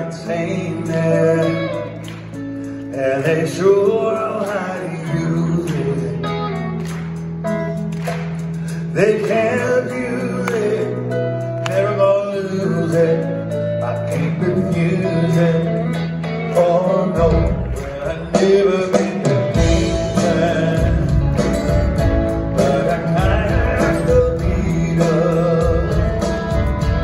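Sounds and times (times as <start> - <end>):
person singing: 0.0 - 2.0, 2.9 - 6.8, 8.7 - 27.0
live rock band playing: 0.0 - 27.0
bass and drums: 5.2 - 27.0.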